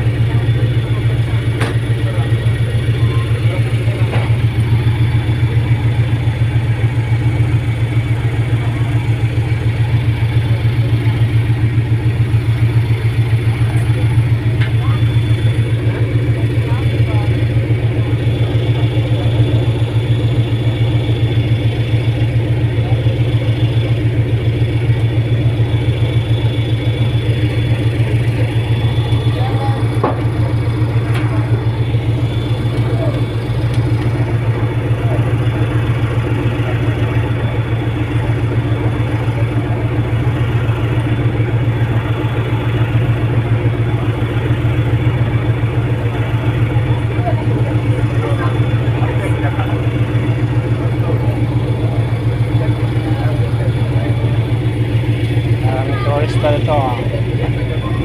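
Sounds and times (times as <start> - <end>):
ferry engines droning: 0.0 - 58.0.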